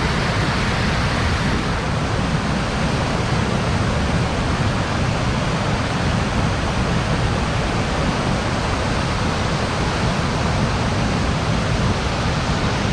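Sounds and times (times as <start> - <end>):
waterfall roar: 0.0 - 12.9.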